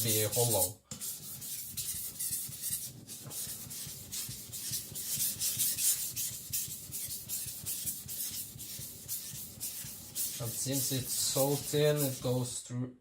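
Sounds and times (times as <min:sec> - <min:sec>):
cleaver grinding on whetstone: 0:00.0 - 0:12.3.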